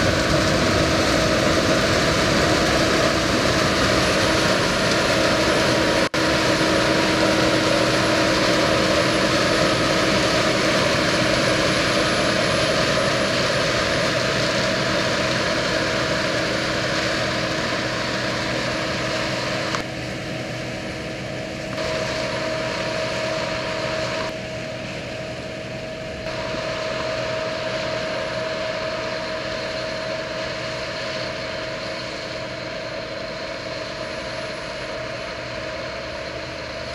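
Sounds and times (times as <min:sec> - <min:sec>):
combine harvester engine drone: 0:00.0 - 0:36.9.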